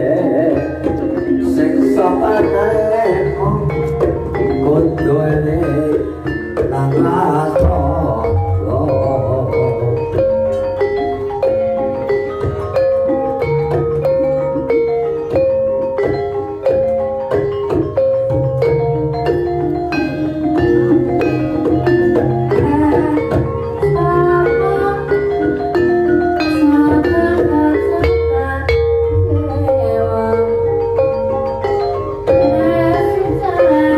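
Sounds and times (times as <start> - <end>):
metallophones struck with mallets: 0.0 - 33.9.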